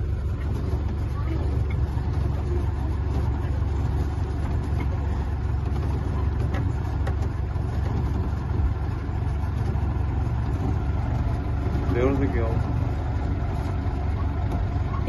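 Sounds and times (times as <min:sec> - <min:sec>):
tour train engine rumbling: 0:00.0 - 0:15.0.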